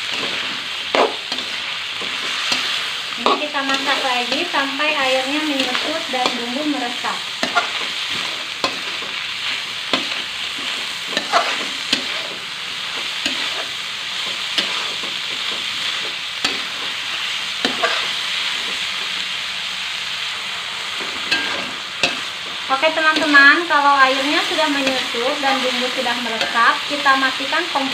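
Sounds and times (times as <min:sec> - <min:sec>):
food sizzling in a wok: 0:00.0 - 0:27.9
metal spatula scraping a pan: 0:00.1 - 0:18.8, 0:21.0 - 0:26.6.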